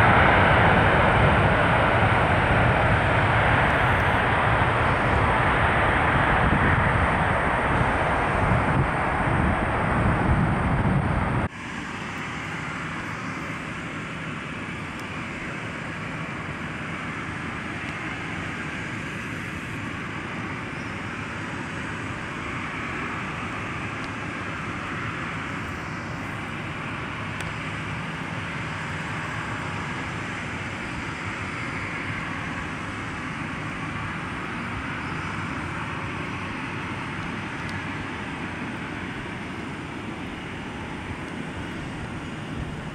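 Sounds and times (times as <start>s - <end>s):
jet engine roar on landing: 0.0s - 42.9s
jet engines taxiing: 0.0s - 42.9s.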